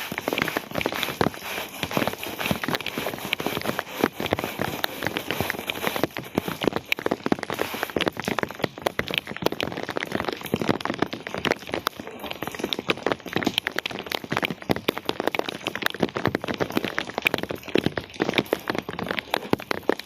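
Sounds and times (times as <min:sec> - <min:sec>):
rain on a hard surface: 0:00.0 - 0:20.0.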